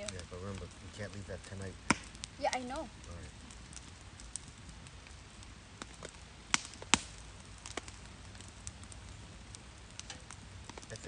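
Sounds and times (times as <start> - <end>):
wood fire clicking and snapping: 0.0 - 11.0.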